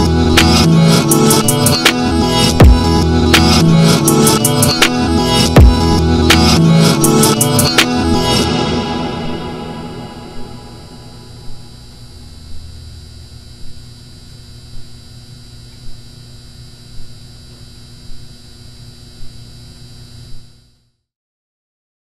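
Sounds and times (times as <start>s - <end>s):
pulsing hum with hiss: 0.0s - 21.0s.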